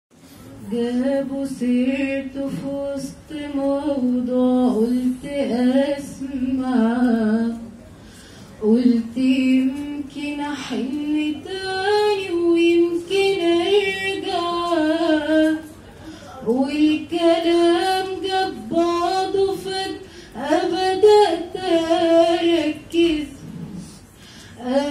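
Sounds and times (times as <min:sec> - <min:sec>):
girl singing unaccompanied: 0:00.6 - 0:07.8, 0:08.6 - 0:15.8, 0:16.4 - 0:24.9.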